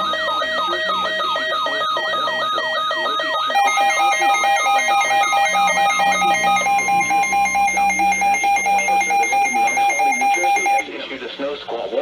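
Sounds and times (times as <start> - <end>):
alarm beeping in rapid pulse: 0.0 - 10.8
steady warning tone: 0.0 - 10.8.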